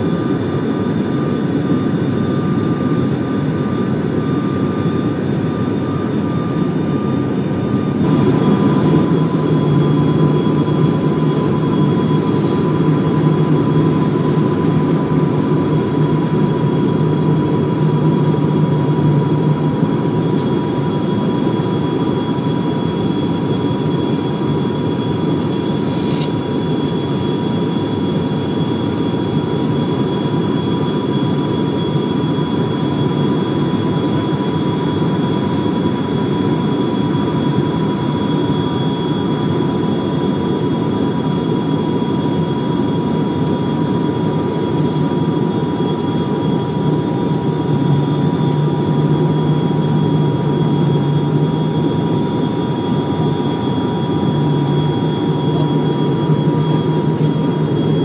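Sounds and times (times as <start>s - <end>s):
turboprop engine drone: 0.0s - 58.0s
thin engine whine: 0.1s - 58.0s.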